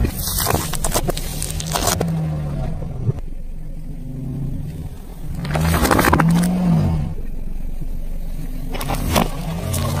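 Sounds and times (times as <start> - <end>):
car engine running at low speed: 0.0 - 10.0.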